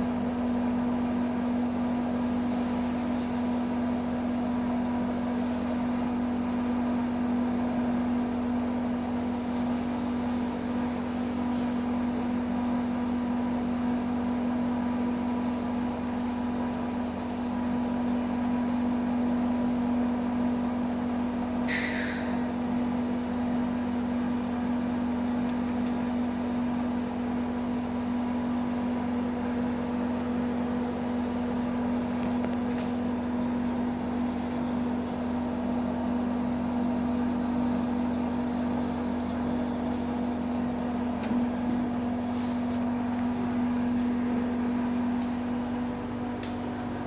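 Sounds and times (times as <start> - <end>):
ice machine motor hum: 0.0 - 47.0.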